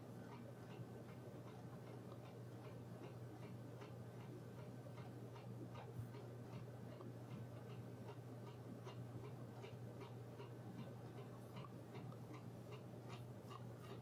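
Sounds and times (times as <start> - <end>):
clock ticking: 0.0 - 14.0.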